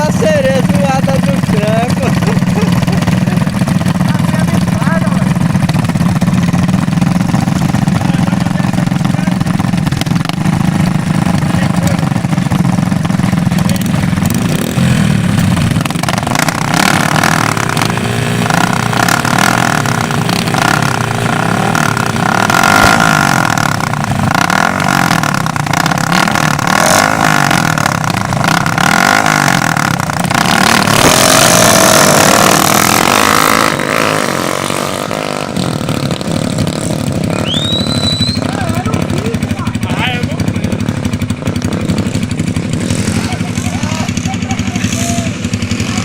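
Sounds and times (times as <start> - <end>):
motocross bike engines revving: 0.0 - 46.0.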